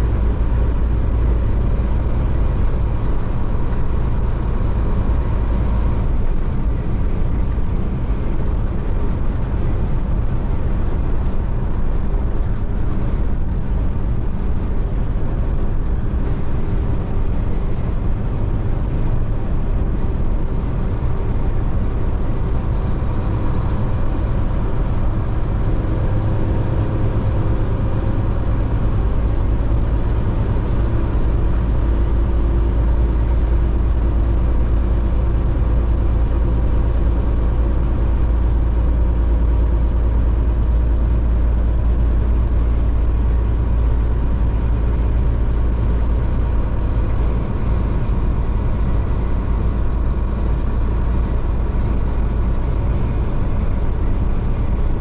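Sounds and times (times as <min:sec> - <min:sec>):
car driving at highway speed: 0:00.0 - 0:55.0.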